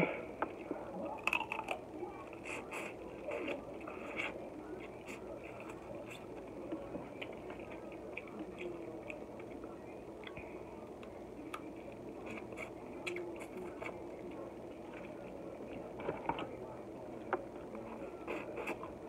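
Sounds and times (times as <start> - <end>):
wet chewing: 1.2 - 16.5.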